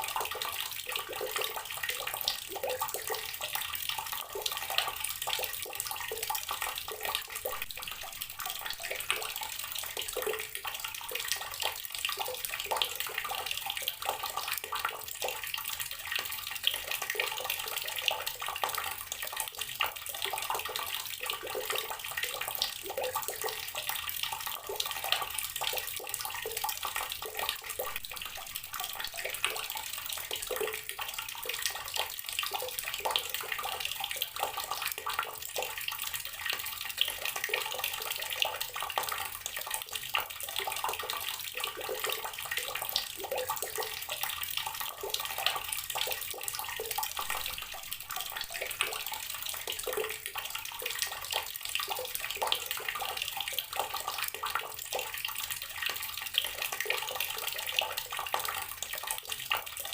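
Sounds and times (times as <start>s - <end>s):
water running from tap: 0.0s - 59.9s.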